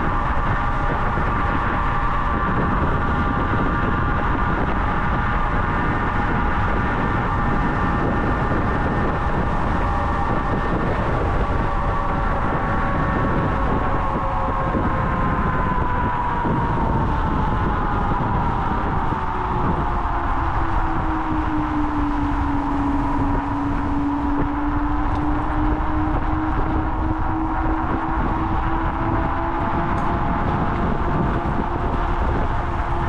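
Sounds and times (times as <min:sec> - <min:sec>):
electric motor whine: 0:00.0 - 0:33.0
wind and road noise: 0:00.0 - 0:33.0.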